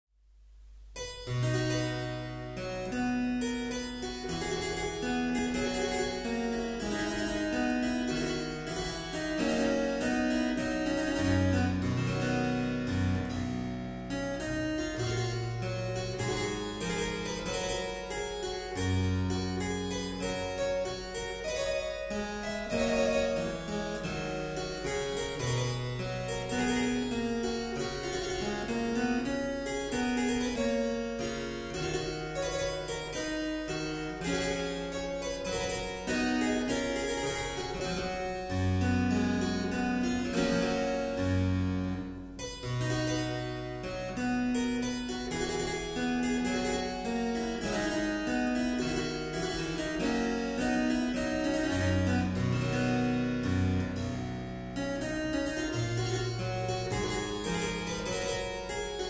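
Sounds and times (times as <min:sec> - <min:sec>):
harpsichord music: 0:01.0 - 0:59.0.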